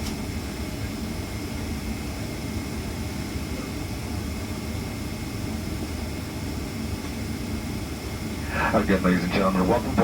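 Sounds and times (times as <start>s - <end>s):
airplane cabin rumble and hiss: 0.0s - 10.0s.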